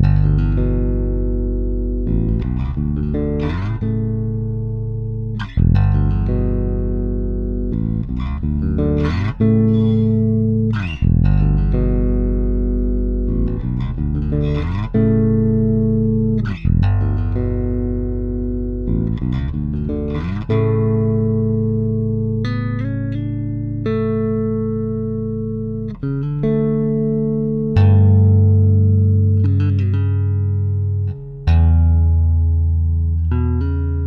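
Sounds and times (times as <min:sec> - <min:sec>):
electric bass plucked: 0:00.0 - 0:34.0.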